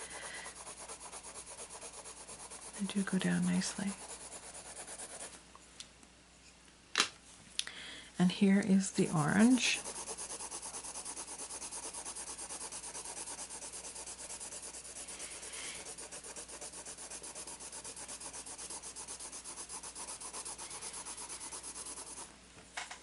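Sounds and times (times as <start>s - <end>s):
colour pencil scratching on paper: 0.0s - 5.4s, 8.4s - 22.3s.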